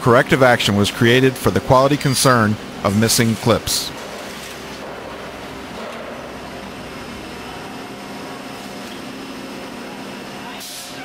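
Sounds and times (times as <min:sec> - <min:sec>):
factory machinery hum and hiss: 0:00.0 - 0:11.0.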